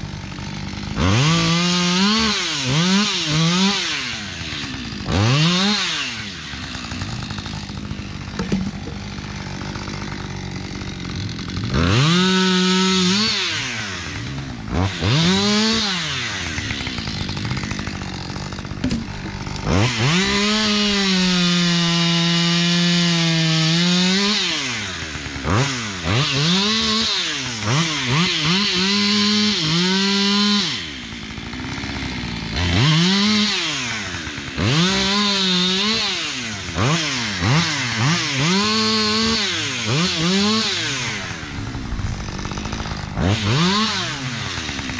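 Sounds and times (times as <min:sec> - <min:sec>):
chainsaw cutting wood: 0:00.0 - 0:44.9
chainsaw idling and revving: 0:00.0 - 0:44.9.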